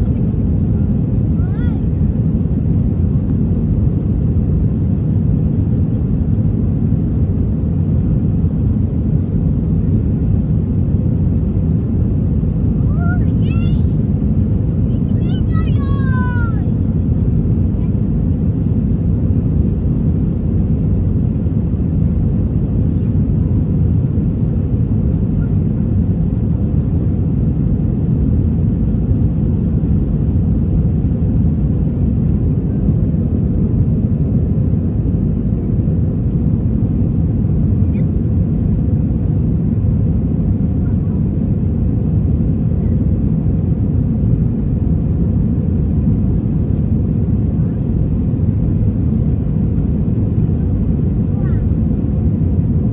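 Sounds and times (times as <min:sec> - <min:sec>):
airliner engine rumble in cabin: 0:00.0 - 0:52.9.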